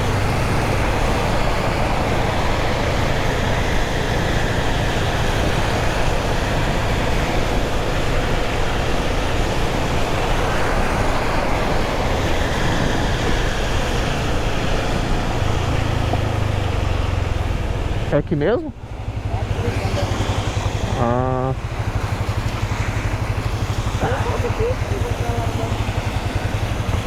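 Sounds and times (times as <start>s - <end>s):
motorcycle engine running: 0.0s - 27.0s
wind and road noise: 0.0s - 27.0s.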